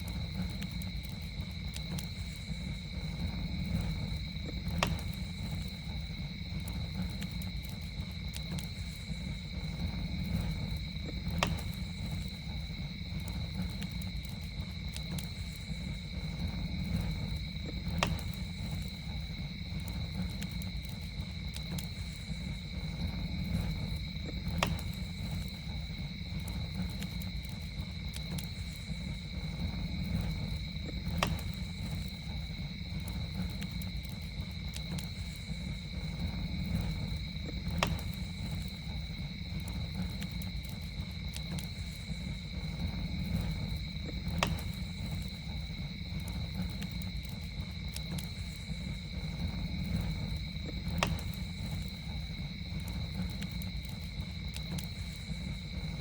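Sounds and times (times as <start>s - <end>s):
campfire crackling: 0.0s - 56.0s
high-pitched insect trill: 0.0s - 56.0s.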